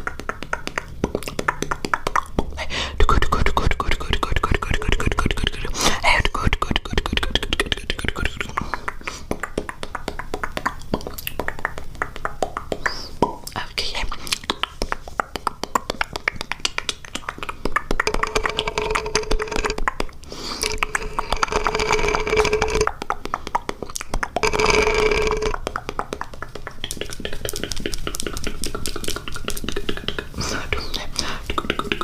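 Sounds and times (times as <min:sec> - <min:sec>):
steady pitched vocal tone: 0:00.0 - 0:23.1, 0:24.2 - 0:32.0
wet mouth clicks: 0:00.0 - 0:32.0.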